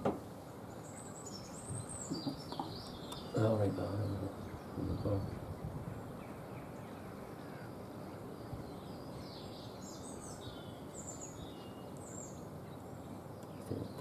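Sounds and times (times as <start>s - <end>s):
outdoor background hiss: 0.0s - 14.0s
small birds chirping: 0.0s - 14.0s.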